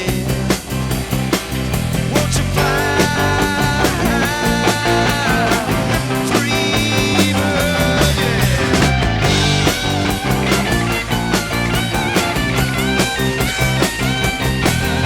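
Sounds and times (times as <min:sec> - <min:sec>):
bass guitar: 0:00.0 - 0:15.0
drums: 0:00.0 - 0:15.0
rhythm guitar: 0:00.0 - 0:15.0
lead electric guitar bending notes: 0:00.8 - 0:15.0.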